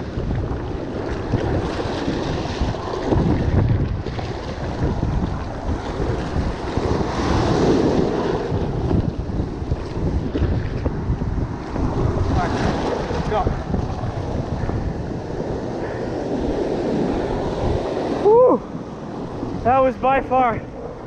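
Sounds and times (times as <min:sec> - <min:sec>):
surf breaking on beach: 0:00.0 - 0:20.8
wind buffeting microphone: 0:00.0 - 0:21.0.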